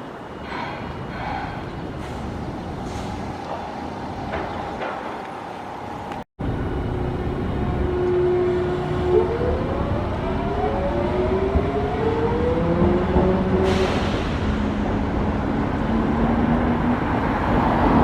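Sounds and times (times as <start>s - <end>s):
tram electric whine: 0.0s - 18.0s.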